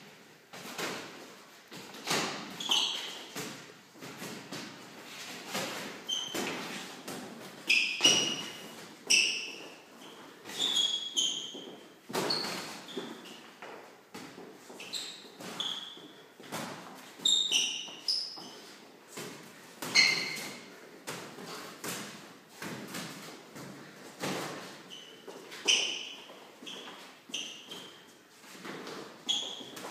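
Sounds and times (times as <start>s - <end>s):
trainers squeaking on hard floor: 1.8s - 3.7s, 4.5s - 21.8s, 23.2s - 29.9s.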